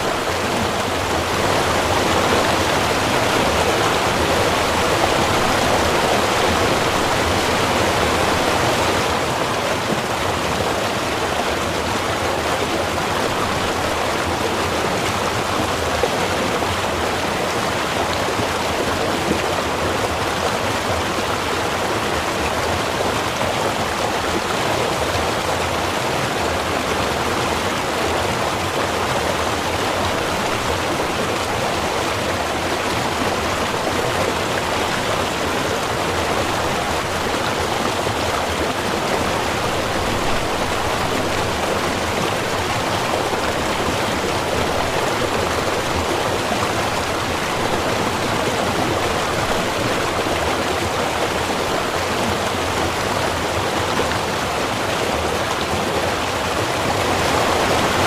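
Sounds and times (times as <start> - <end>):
small river flowing: 0.0 - 58.0.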